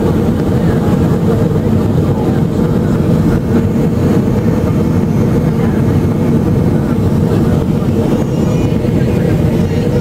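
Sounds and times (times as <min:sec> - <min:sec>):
jet engines and airflow rushing: 0:00.0 - 0:10.0.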